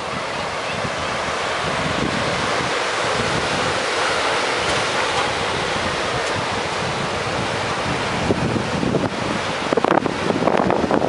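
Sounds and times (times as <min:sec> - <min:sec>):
surf breaking on a beach: 0:00.0 - 0:11.0
wind buffeting the microphone: 0:00.0 - 0:11.0.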